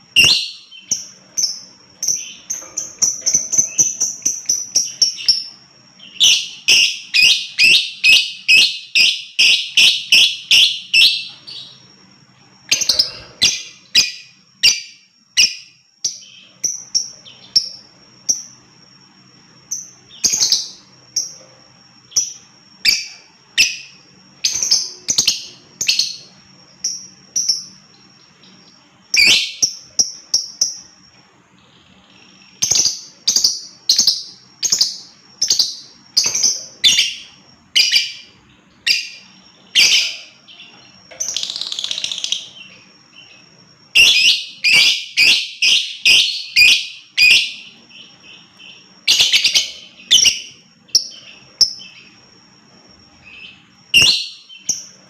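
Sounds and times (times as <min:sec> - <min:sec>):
lovebird chirping: 0:00.0 - 0:55.0.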